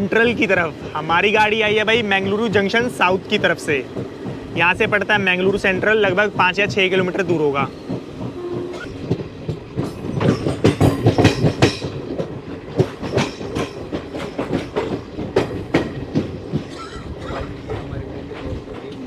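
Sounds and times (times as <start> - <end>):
steady train rumble: 0.0 - 19.0
train wheels clattering over track: 0.0 - 19.0.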